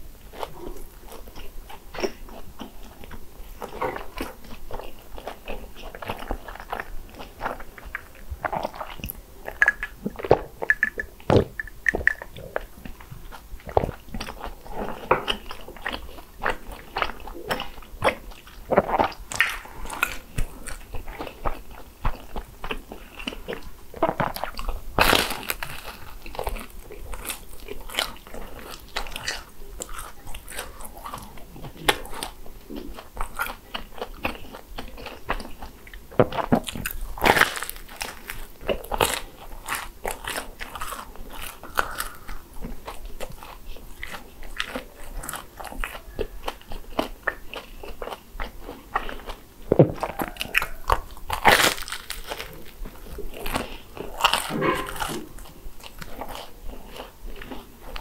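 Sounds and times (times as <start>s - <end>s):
chewing: 0.0s - 58.0s
crunchy biting: 0.3s - 58.0s.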